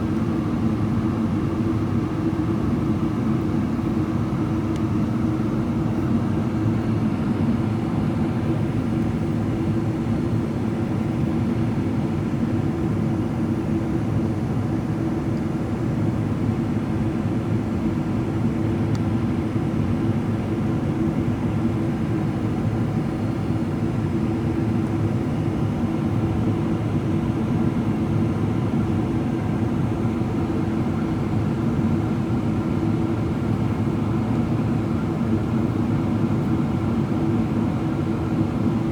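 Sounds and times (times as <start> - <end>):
airplane cabin noise: 0.0 - 38.9.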